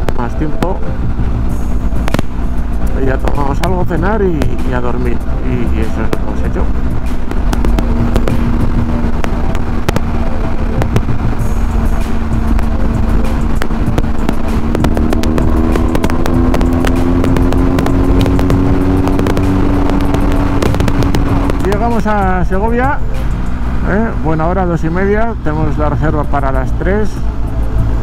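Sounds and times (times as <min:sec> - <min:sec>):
motorcycle engine cruising: 0:00.0 - 0:28.0
wind rush and buffeting: 0:00.0 - 0:28.0.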